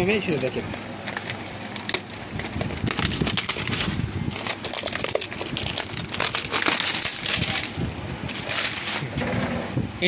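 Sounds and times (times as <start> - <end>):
crackling rustling handling noise: 0.0 - 9.8.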